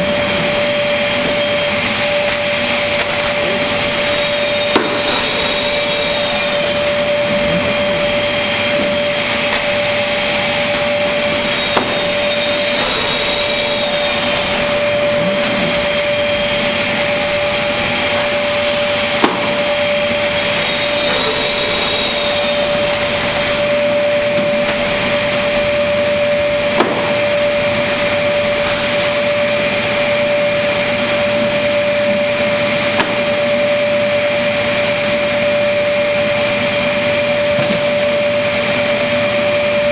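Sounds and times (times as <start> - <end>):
cutting machine whining: 0.0 - 39.9.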